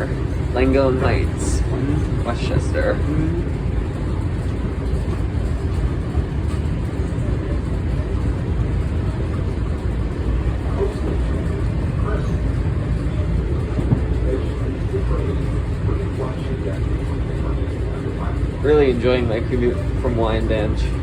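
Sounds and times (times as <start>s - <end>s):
train rumbling from inside: 0.0s - 21.0s.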